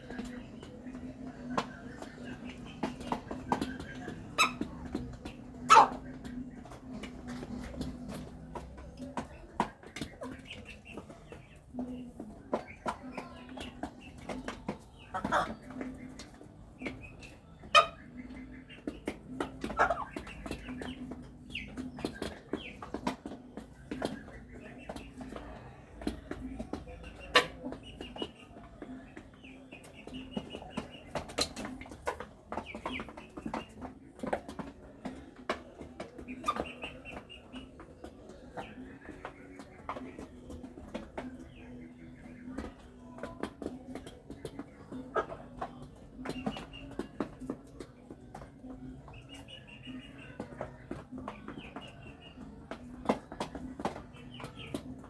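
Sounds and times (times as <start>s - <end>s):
beaks pecking at feed: 0.0s - 55.0s
chickens clucking: 0.0s - 55.0s
hens chirping softly: 0.0s - 55.0s.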